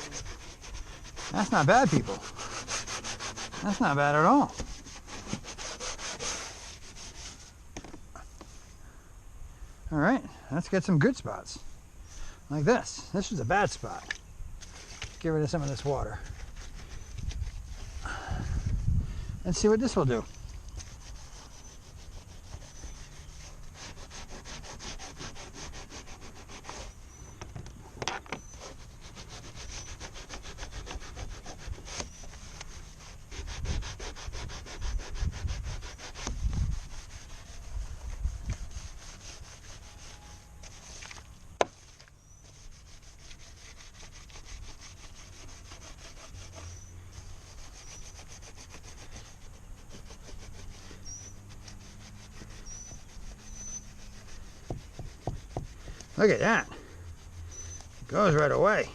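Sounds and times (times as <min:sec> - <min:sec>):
scrubbing on kayak hull: 0:00.0 - 0:08.6, 0:13.2 - 0:18.9, 0:19.5 - 0:58.9.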